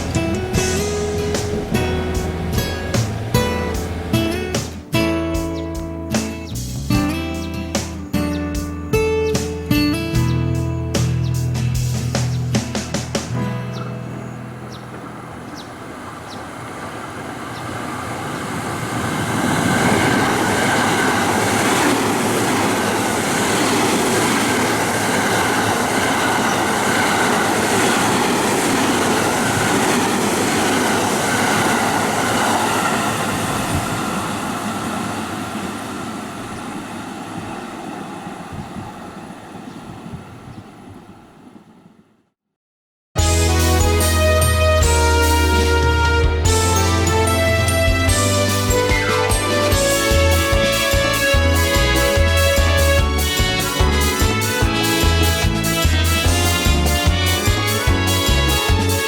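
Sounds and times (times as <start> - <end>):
train wheels rumbling on rails: 0.0 - 7.1, 7.8 - 42.1, 43.7 - 59.0.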